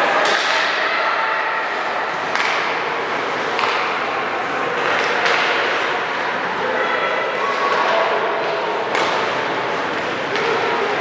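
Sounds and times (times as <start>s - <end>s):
murmur of crowd and players: 0.0s - 11.0s.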